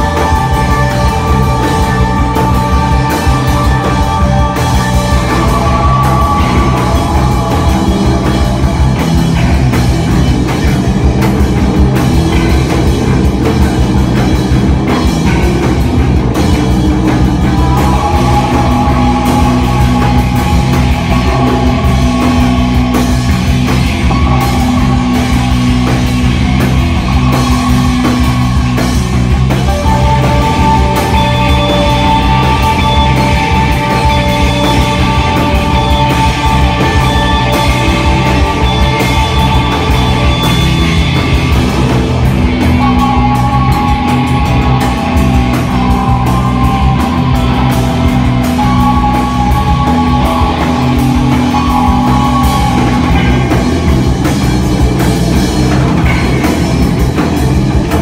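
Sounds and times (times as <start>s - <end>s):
sustained high notes: 0.0s - 57.1s
rock band playing: 0.0s - 58.0s.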